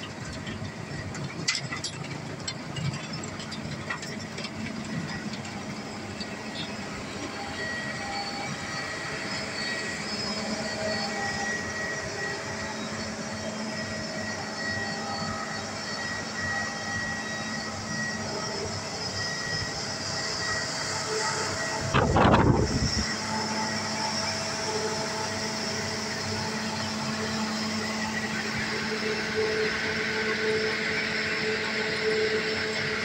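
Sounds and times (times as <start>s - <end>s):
crusher machinery hum: 0.0s - 33.0s.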